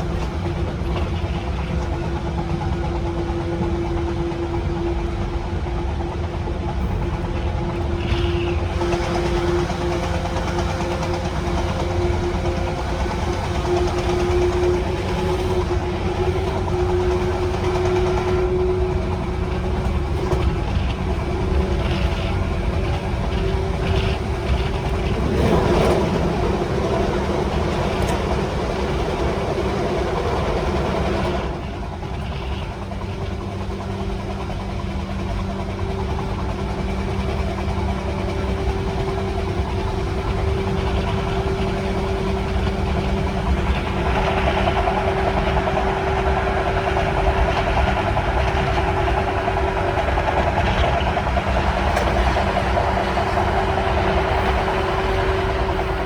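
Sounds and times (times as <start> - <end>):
traction motors humming: 0.0 - 56.0
train wheel and rail noise: 0.0 - 56.0.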